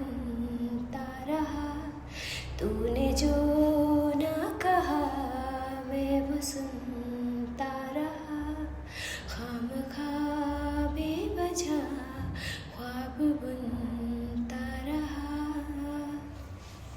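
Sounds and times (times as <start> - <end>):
girl singing unaccompanied: 0.0 - 16.4.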